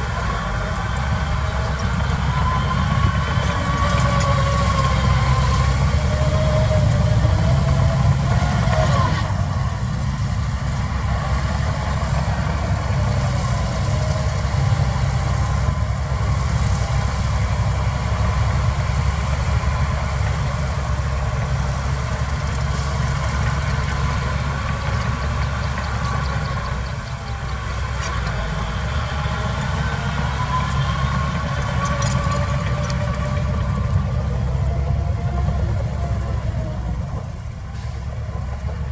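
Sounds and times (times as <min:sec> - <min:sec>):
heavy diesel engines rumbling: 0:00.0 - 0:38.9.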